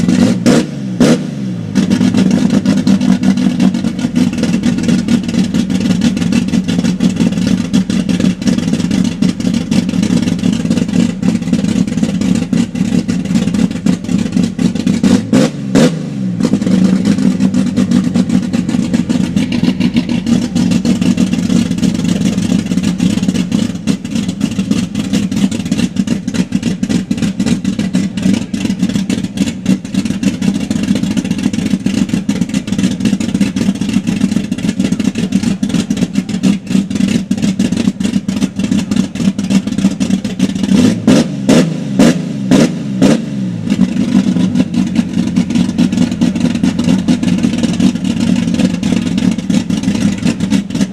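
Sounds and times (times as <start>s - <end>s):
loud car exhaust rumble: 0.0s - 50.9s.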